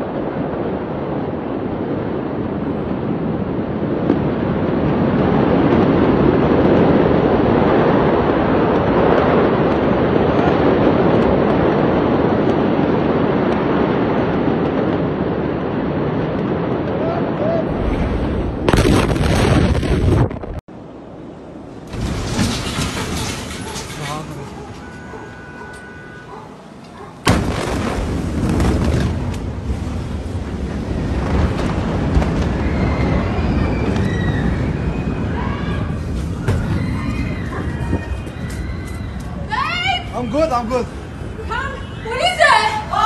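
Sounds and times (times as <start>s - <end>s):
explosion rumble: 0.0s - 24.5s, 27.2s - 39.5s
fire roaring: 0.0s - 43.0s.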